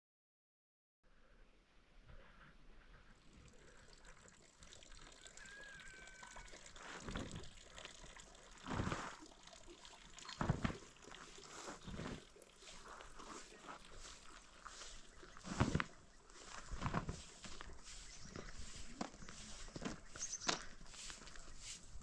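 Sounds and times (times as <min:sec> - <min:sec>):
water pouring and splashing: 0:03.2 - 0:22.0.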